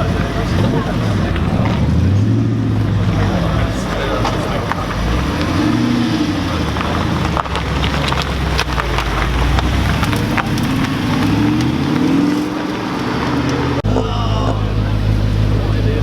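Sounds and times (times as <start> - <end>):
car engine revving: 0.0 - 16.0
sharp exhaust crackles: 0.0 - 16.0.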